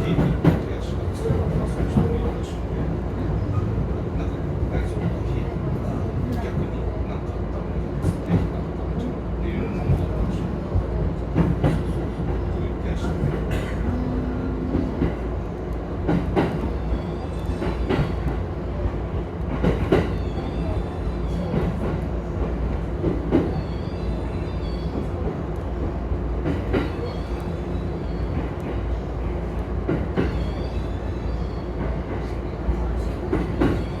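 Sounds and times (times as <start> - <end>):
train low rumble: 0.0 - 34.0.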